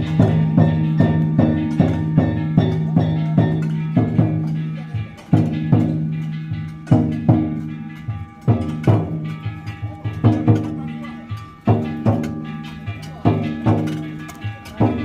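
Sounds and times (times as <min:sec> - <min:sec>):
drum and gong strikes: 0:00.0 - 0:15.0
metallic ringing tone: 0:00.0 - 0:15.0.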